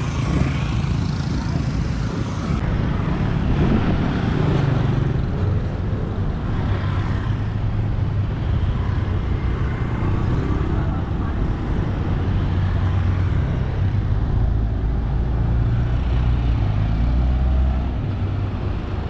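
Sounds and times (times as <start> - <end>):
car engines: 0.0 - 19.0
tyre and wind rumble: 0.0 - 19.0.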